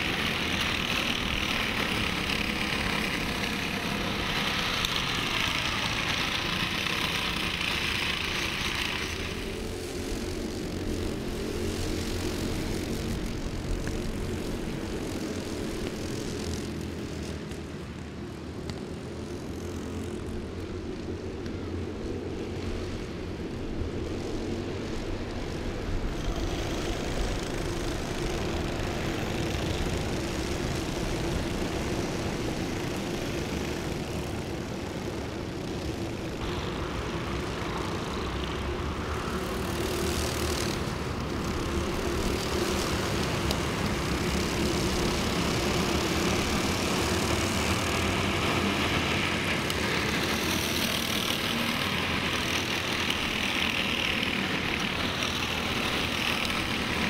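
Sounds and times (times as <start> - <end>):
racing karts engines droning: 0.0 - 57.0.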